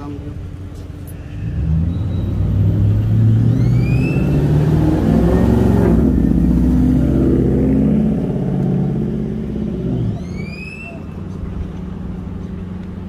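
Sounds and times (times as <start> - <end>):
vehicle driving by: 1.2 - 13.0.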